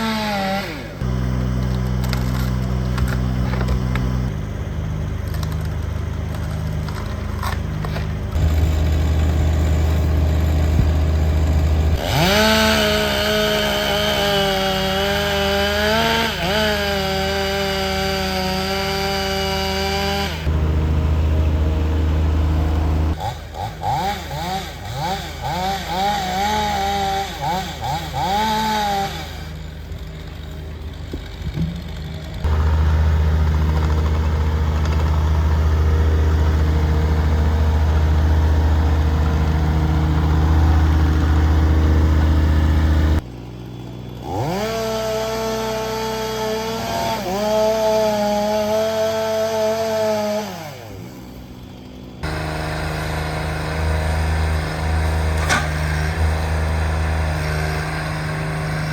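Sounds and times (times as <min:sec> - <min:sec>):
chainsaw revving: 0:00.0 - 0:04.6, 0:07.5 - 0:58.9.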